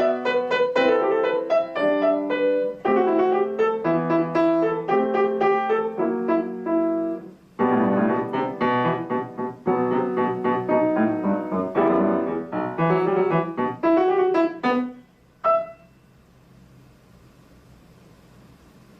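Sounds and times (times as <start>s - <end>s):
solo piano playing: 0.0s - 16.0s
faint room hiss: 0.0s - 18.9s.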